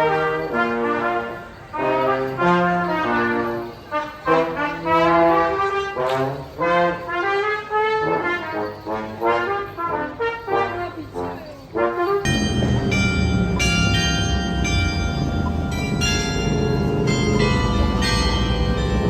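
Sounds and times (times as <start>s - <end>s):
brass instruments playing lively melody: 0.0s - 19.0s.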